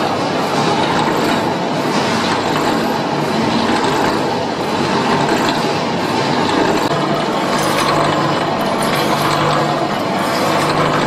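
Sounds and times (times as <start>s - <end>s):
furnace machinery rumbling: 0.0s - 11.0s
steady machine hum: 0.0s - 11.0s.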